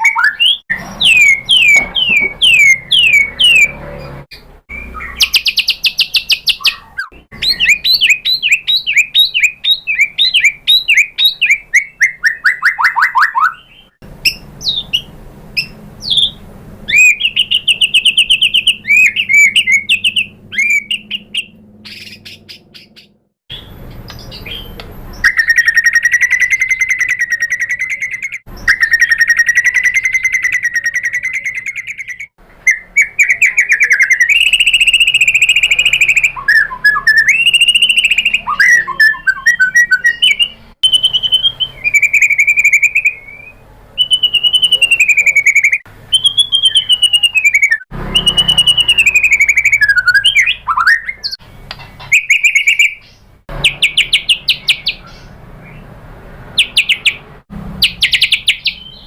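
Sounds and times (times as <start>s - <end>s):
songbird singing varied song: 0.0s - 55.9s, 56.6s - 59.0s.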